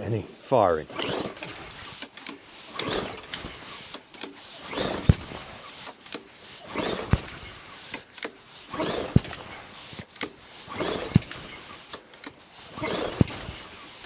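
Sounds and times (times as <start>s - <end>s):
lawnmower pull-starter cranking: 0.9s - 14.0s.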